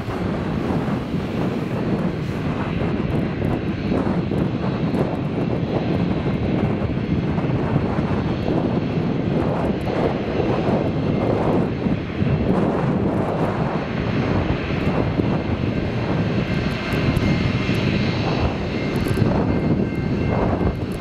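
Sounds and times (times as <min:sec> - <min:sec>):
jet engines taxiing: 0:00.0 - 0:21.0.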